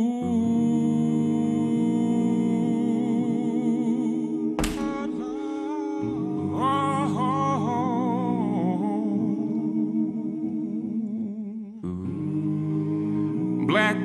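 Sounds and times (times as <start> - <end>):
singer with wide vibrato: 0.0 - 14.0.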